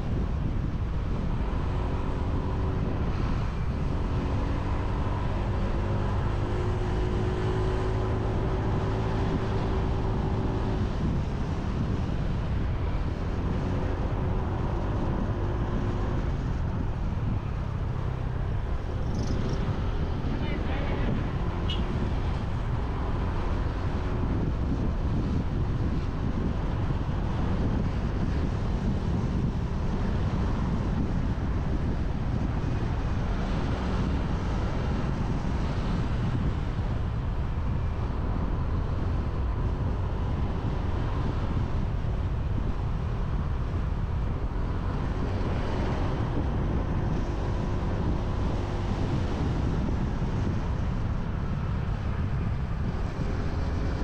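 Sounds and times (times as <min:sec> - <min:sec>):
tyres on road: 0:00.0 - 0:54.0
wind rushing over microphone: 0:00.0 - 0:54.0.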